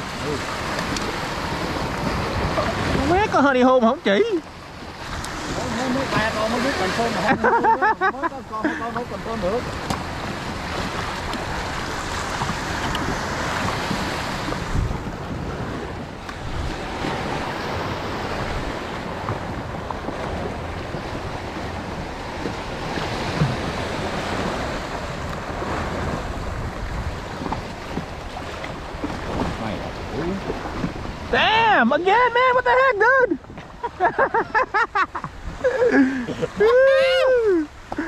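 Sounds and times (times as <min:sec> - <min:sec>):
waves washing and lapping: 0:00.0 - 0:38.0
wind buffeting microphone: 0:00.0 - 0:38.0.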